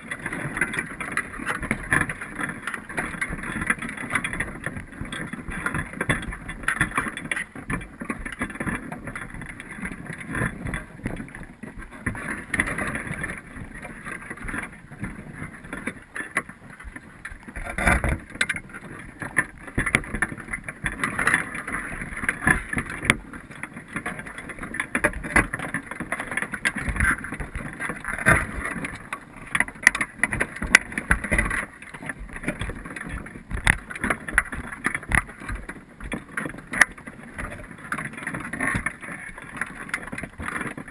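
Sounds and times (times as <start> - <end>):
clicks and knocks: 0.0 - 40.9.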